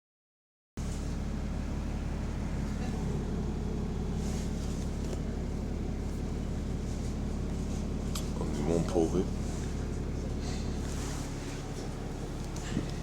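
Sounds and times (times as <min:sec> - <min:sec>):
bus engine drone: 0:00.8 - 0:13.0.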